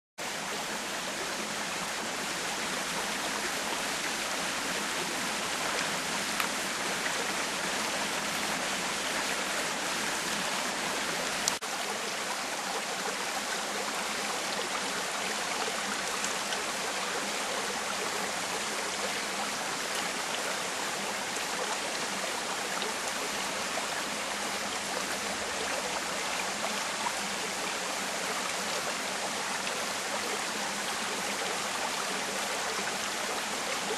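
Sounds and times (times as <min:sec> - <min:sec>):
creek water rushing over stones: 0:00.2 - 0:33.9.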